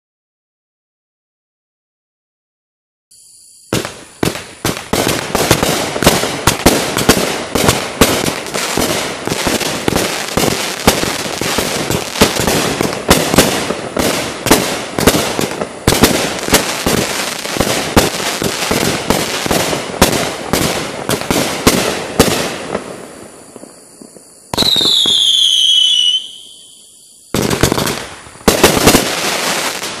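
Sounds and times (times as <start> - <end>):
falling firework whistle: 3.1 - 30.0
fireworks shots and crackling bursts: 3.1 - 30.0.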